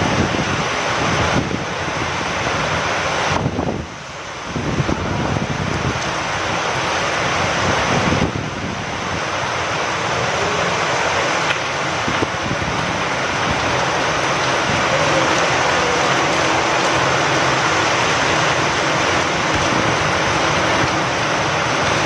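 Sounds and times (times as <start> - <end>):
rain falling: 0.0 - 22.0
wind: 0.0 - 22.0.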